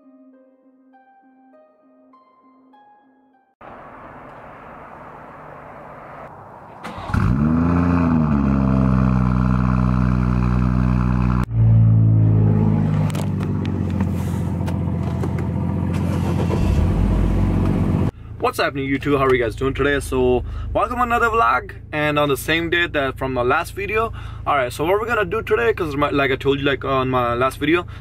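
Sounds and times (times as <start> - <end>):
car engine starting and idling: 3.6 - 28.0.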